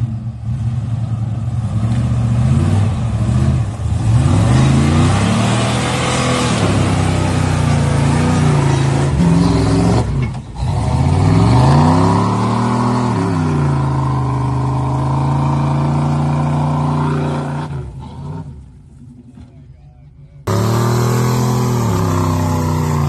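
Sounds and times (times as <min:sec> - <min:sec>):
off-road vehicle engine revving: 0:00.0 - 0:19.4, 0:20.4 - 0:23.0.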